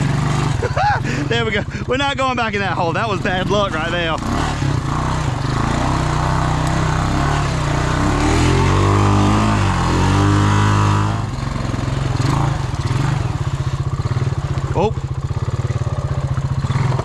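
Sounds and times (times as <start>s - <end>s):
atv engine revving and idling: 0.0s - 17.0s.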